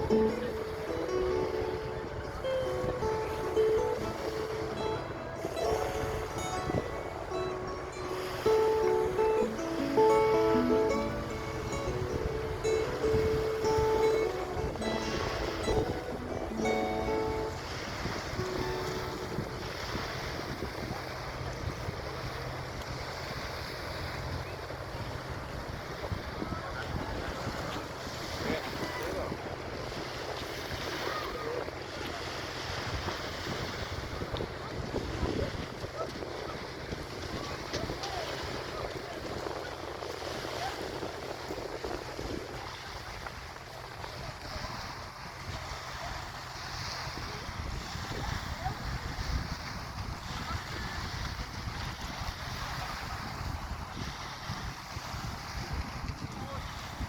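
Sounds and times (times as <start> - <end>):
low ship hum: 0.0 - 57.0
sea water wash: 0.0 - 57.0
wind buffeting microphone: 0.0 - 57.0.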